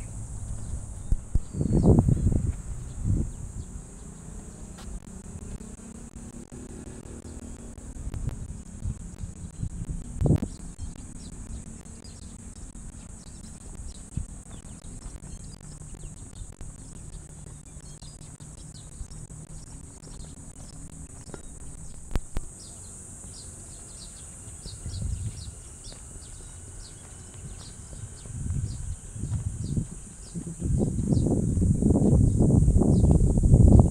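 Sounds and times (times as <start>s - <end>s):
birds chirping: 0.0s - 33.9s
insects droning: 0.0s - 33.9s
low rumble: 0.0s - 33.9s.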